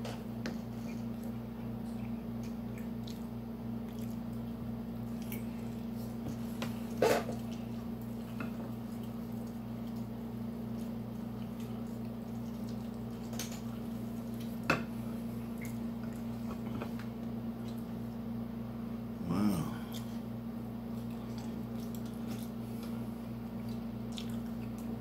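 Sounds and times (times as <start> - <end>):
steady low hum: 0.0 - 25.0
chewing and wet mouth sounds: 0.4 - 18.2, 19.4 - 20.3, 20.9 - 25.0.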